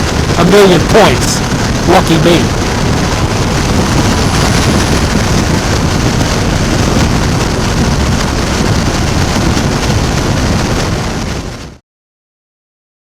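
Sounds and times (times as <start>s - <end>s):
motorcycle engine cruising: 0.0s - 10.5s
wind rush on microphone: 0.0s - 11.8s.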